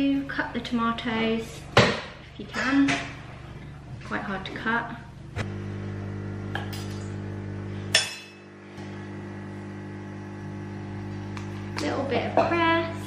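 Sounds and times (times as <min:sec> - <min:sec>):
steady low hum: 0:01.5 - 0:13.0.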